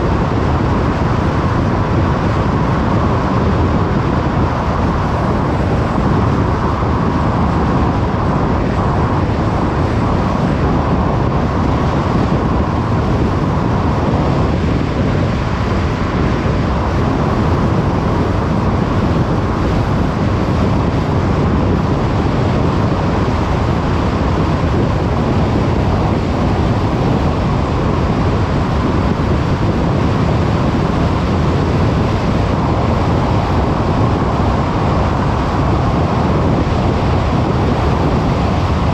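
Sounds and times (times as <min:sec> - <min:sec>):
low engine hum: 0:00.0 - 0:38.9
road and tyre noise: 0:00.0 - 0:38.9.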